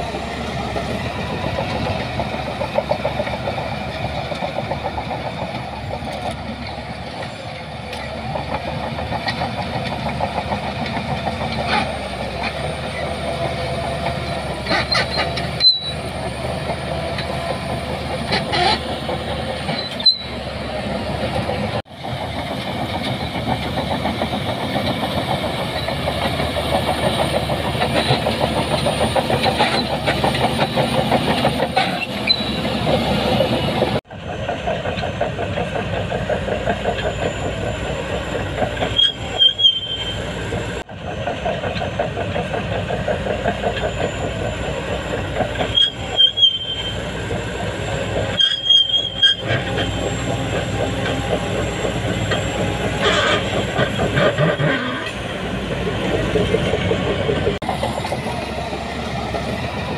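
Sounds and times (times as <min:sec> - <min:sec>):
heavy machinery diesel engines rattling: 0:00.0 - 0:59.9.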